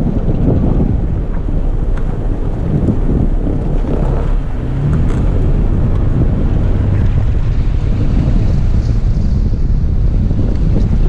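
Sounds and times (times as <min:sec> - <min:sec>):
vehicle engine rumble: 0:00.0 - 0:11.0
wind buffeting microphone: 0:00.0 - 0:11.0.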